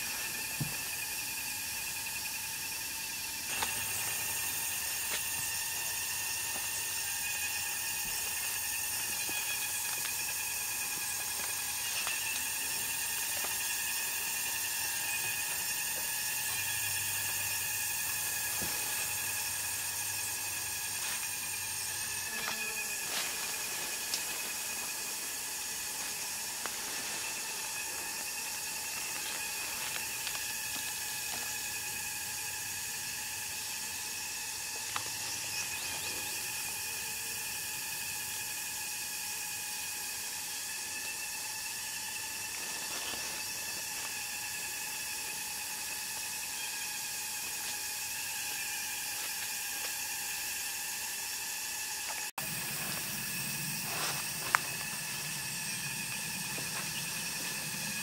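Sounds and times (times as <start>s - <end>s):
hiss: 0.0s - 58.0s
insect chorus droning: 0.0s - 58.0s.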